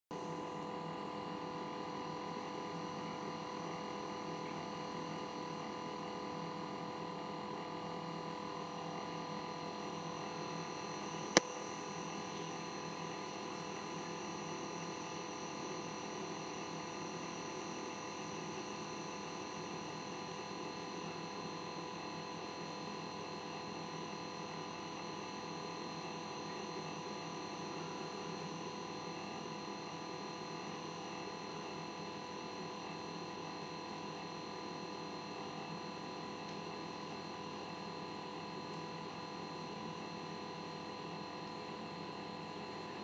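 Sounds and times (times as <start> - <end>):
aquarium equipment hum: 0.1 - 43.0.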